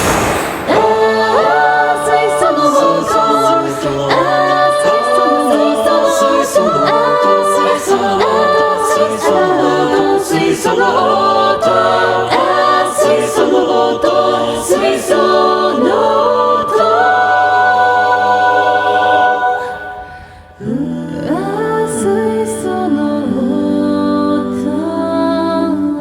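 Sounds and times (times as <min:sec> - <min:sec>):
a cappella chorus singing: 0:00.0 - 0:26.0.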